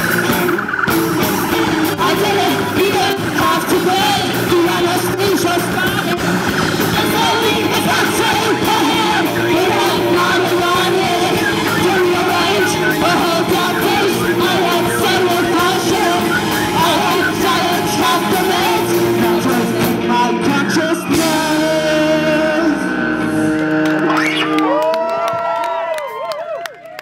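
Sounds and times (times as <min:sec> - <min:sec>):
rock band playing live: 0:00.0 - 0:24.6
drums: 0:00.0 - 0:26.3
person singing: 0:01.2 - 0:23.6.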